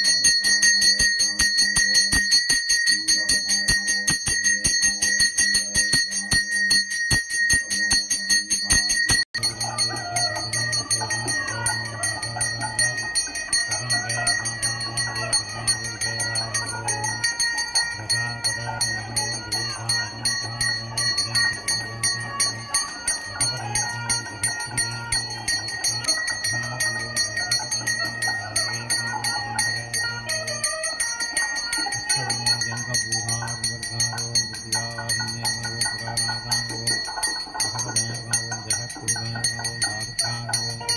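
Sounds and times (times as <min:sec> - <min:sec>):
hand bell rung rapidly: 0:00.0 - 0:40.9.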